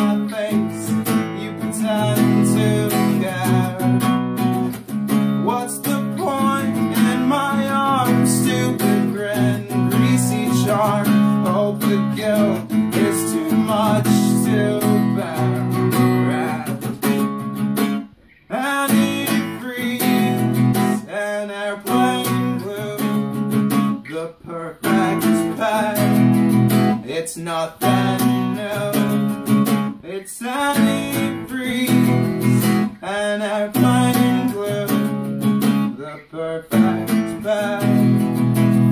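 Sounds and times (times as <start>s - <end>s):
acoustic guitar strummed and picked: 0.0s - 38.9s.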